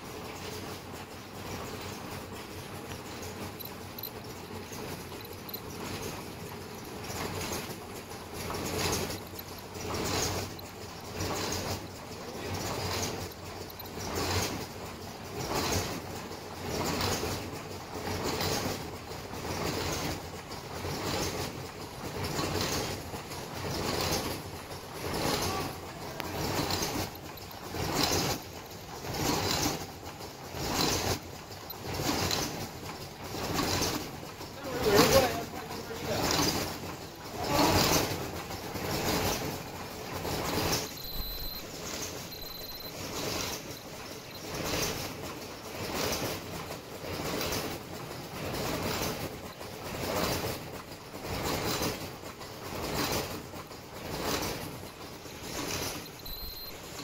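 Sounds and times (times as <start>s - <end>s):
mask making machine cycling: 0.0s - 57.0s
steady mechanical background: 0.0s - 57.0s.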